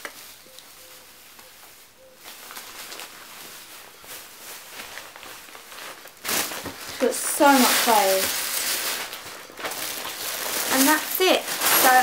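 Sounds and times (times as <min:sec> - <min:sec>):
clothing rustling: 0:00.0 - 0:12.0.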